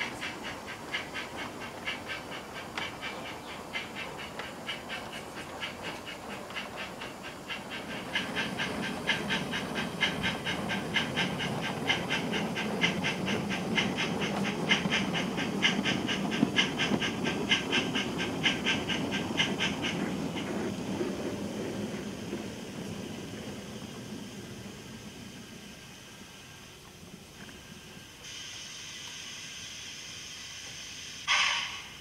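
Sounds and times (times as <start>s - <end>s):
model train wheels rumbling: 0.0s - 32.0s
steam locomotive exhaust chuffs: 0.0s - 32.0s.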